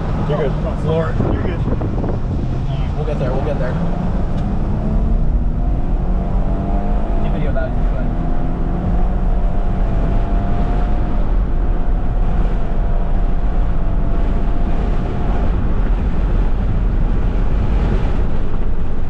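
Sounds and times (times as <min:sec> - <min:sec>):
vehicle driving fast: 0:00.0 - 0:19.0
wind buffeting microphone: 0:00.0 - 0:19.0.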